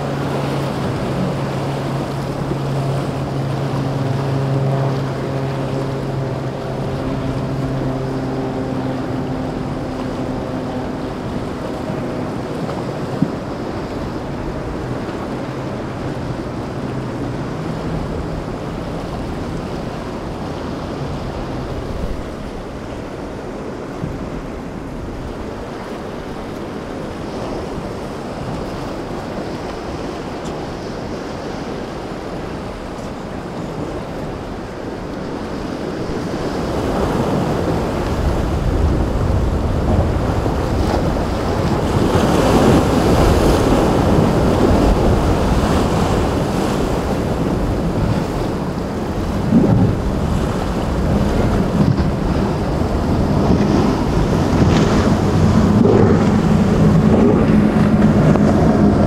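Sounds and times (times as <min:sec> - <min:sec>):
motorboat engine drone: 0:00.0 - 0:59.0
surf breaking: 0:00.0 - 0:59.0
wind buffeting microphone: 0:00.0 - 0:59.0.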